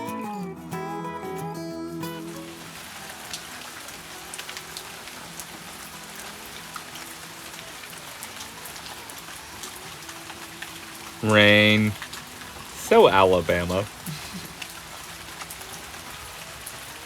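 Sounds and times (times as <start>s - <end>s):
hard rain falling: 2.3s - 17.0s.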